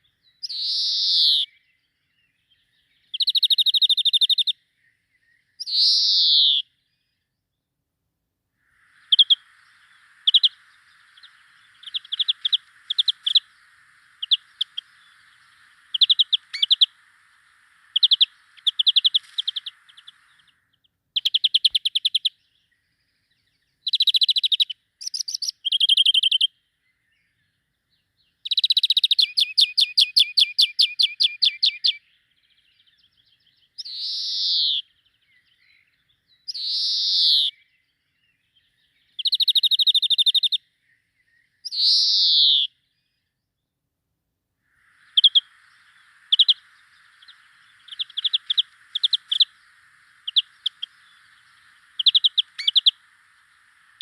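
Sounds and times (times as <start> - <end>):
faint steady hiss: 0.0 - 54.0
songbirds singing: 0.0 - 54.0.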